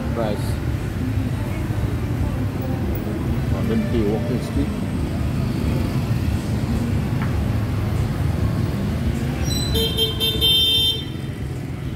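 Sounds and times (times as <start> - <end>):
street traffic: 0.0 - 11.9.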